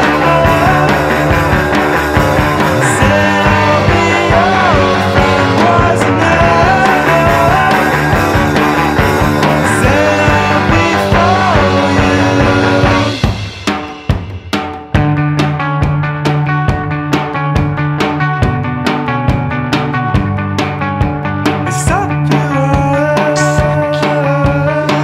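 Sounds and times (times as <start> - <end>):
driving drum beat: 0.0 - 25.0
loud rock music: 0.0 - 25.0.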